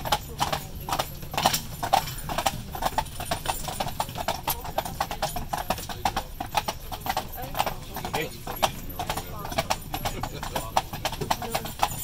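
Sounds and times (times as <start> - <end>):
hooves clip-clopping on pavement: 0.0 - 12.0.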